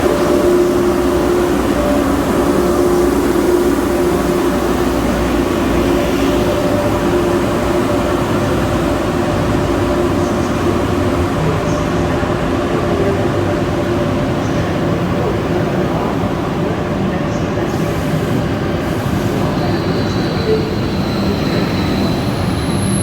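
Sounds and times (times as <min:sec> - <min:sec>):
electric train running hum: 0:00.0 - 0:23.0.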